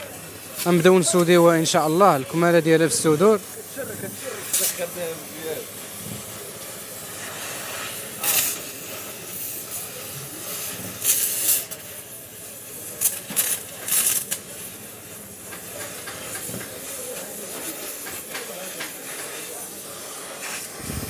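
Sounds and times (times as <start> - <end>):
gas welding torch hissing: 0.0 - 21.0
loud bursts of torch hiss: 0.0 - 21.0.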